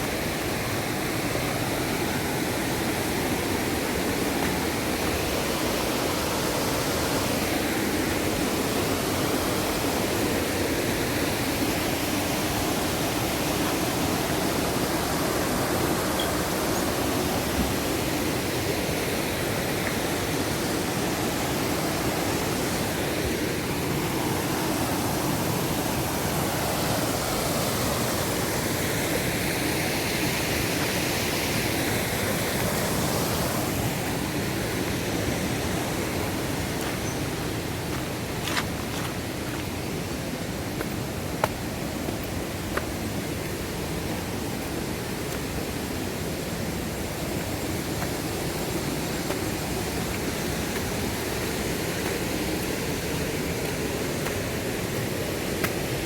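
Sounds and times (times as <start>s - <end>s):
rushing water roar: 0.0s - 56.0s.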